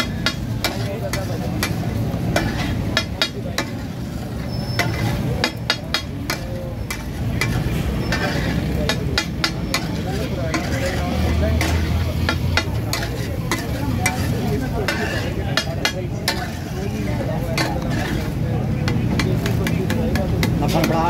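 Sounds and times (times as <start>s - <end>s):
meat sizzling: 0.0s - 18.4s
metal spatula scraping griddle: 0.0s - 21.0s.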